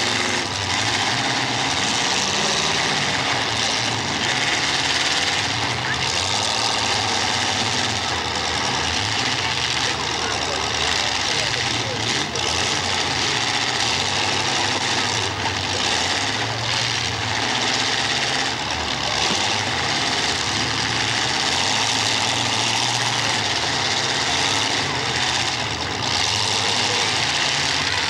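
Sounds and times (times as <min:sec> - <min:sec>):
race car engines: 0:00.0 - 0:28.0.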